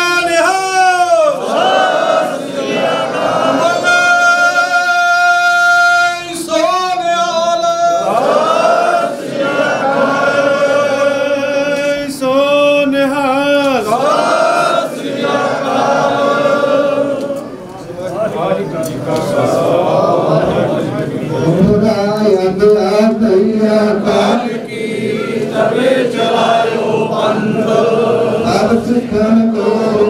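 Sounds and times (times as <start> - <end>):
congregation singing in unison: 0.0 - 17.6, 18.9 - 30.0.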